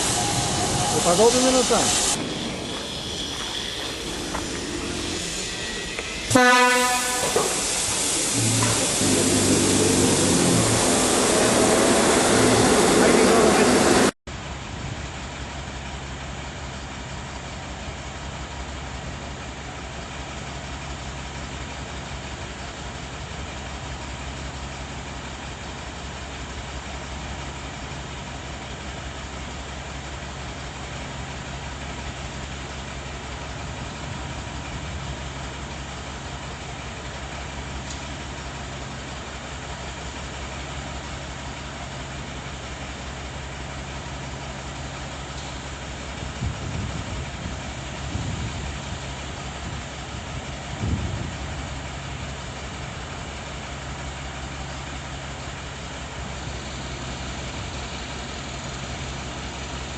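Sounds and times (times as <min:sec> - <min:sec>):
train mechanical hum: 0:00.0 - 0:59.9.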